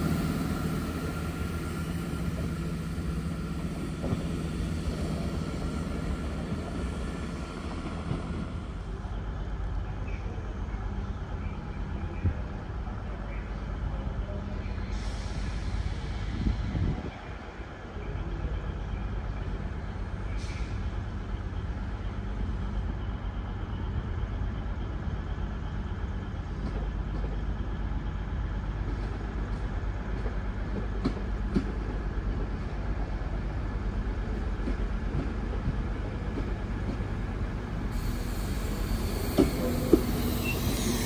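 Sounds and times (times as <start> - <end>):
diesel train engine drone: 0.0 - 41.0.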